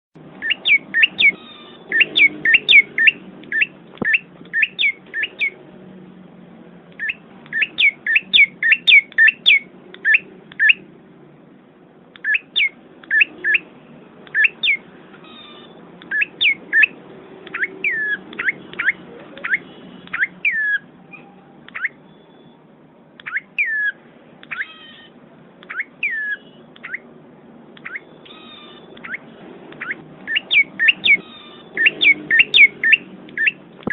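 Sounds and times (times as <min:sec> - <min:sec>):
small bird chirping: 0:00.4 - 0:05.6, 0:07.0 - 0:10.8, 0:12.2 - 0:13.7, 0:14.3 - 0:22.6, 0:23.2 - 0:27.1, 0:27.8 - 0:33.9.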